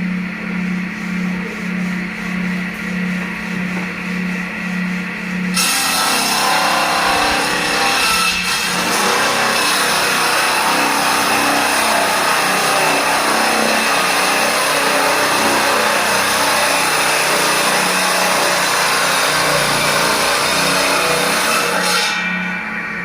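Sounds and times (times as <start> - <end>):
bandsaw mill sawing log: 0.2 - 23.0.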